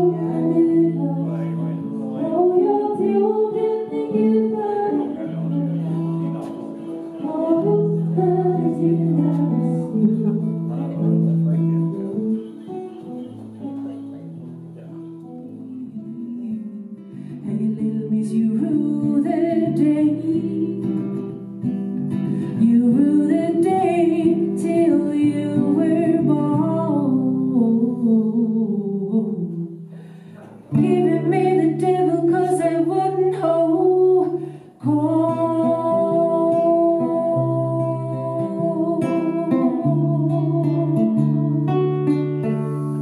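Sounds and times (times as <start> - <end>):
woman singing: 0.0 - 6.0, 7.2 - 10.9, 15.4 - 21.6, 22.3 - 29.8, 30.7 - 43.0
acoustic guitar strumming: 0.0 - 43.0.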